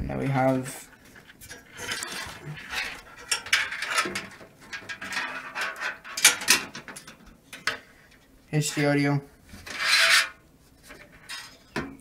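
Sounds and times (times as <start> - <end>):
cables rustling in metal case: 0.4 - 11.8.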